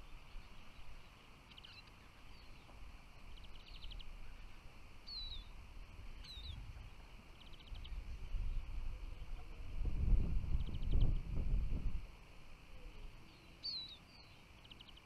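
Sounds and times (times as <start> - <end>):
finches calling: 0.0 - 9.4, 10.5 - 11.2, 12.6 - 15.0.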